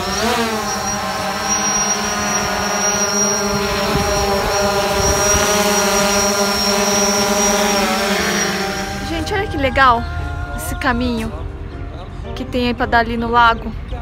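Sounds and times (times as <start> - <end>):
drone rotors buzzing: 0.0 - 11.5.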